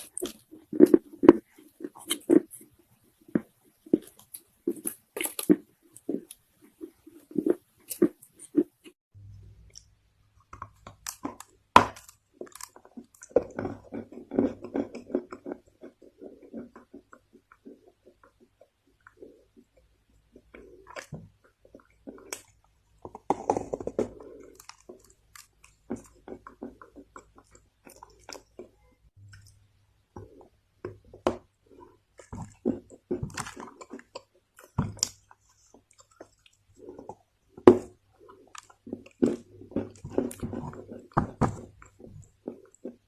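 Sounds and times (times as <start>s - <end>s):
person chewing crunchy clay: 0.0s - 9.0s, 9.6s - 29.6s, 30.2s - 43.0s.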